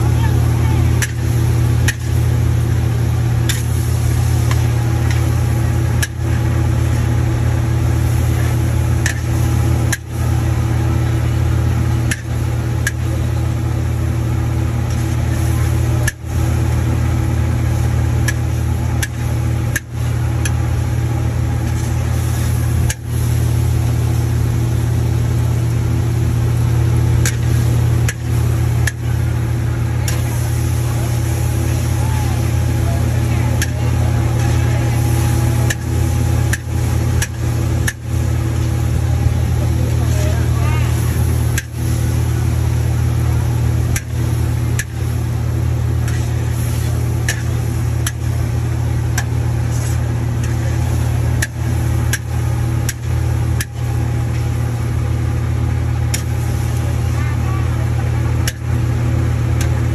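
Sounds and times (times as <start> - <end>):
gas burner roaring: 0.0 - 59.9
noodles frying: 0.0 - 59.9.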